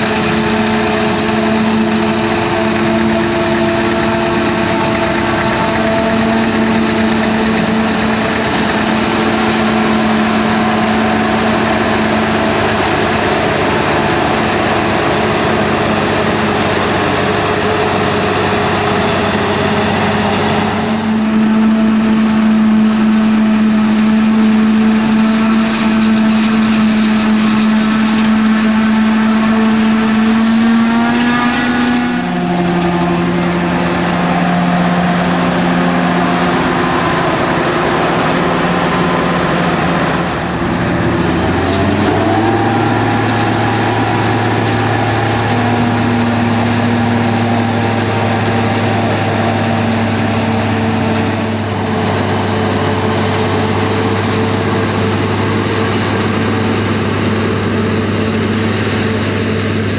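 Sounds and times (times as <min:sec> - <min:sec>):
harvester engine droning: 0:00.0 - 0:59.9
tractor engine: 0:00.0 - 0:59.9.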